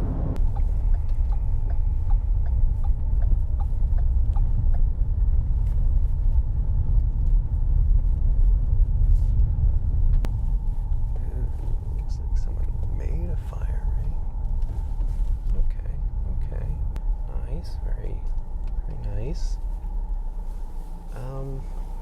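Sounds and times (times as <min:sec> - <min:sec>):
road and engine rumble in car: 0:00.0 - 0:22.0.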